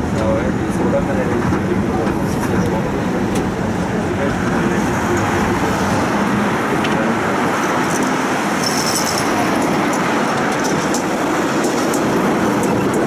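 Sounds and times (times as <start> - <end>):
road traffic passing: 0.0 - 13.0
tram wheels and motor rumble: 0.0 - 13.0.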